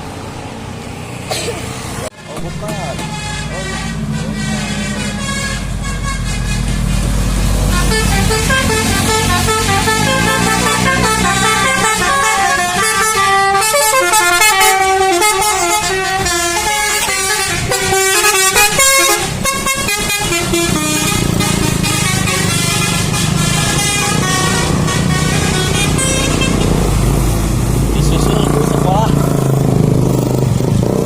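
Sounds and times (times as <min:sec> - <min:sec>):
bus engine rumble: 0:00.0 - 0:31.0
musical bus horn tune: 0:02.1 - 0:27.0.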